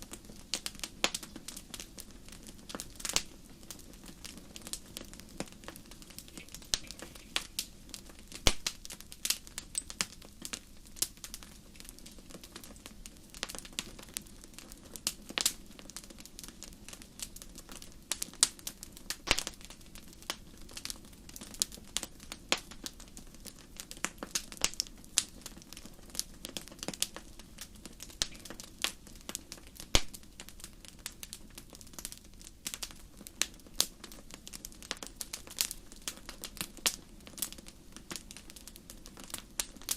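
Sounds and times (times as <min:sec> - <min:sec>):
low rush of flames: 0:00.0 - 0:39.9
wood fire crackling: 0:00.0 - 0:39.9.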